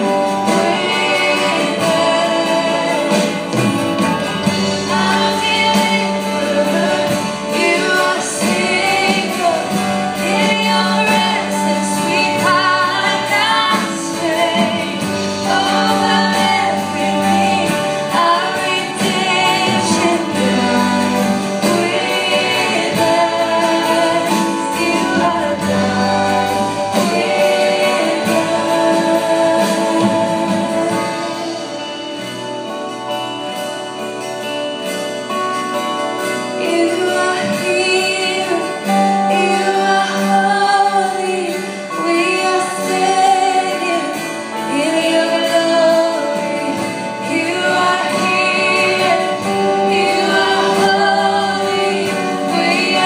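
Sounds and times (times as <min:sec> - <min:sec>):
woman singing into a microphone: 0:00.0 - 0:32.3, 0:36.2 - 0:53.0
acoustic guitar: 0:00.0 - 0:53.0
band with bass: 0:00.0 - 0:53.0.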